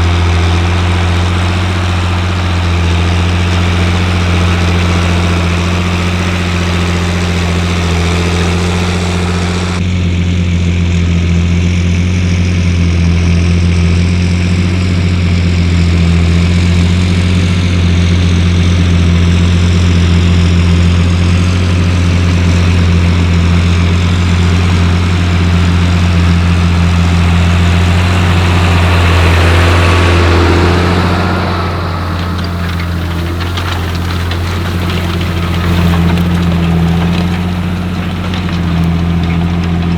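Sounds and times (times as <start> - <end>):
tractor diesel engine humming: 0.0 - 9.8, 14.6 - 39.9.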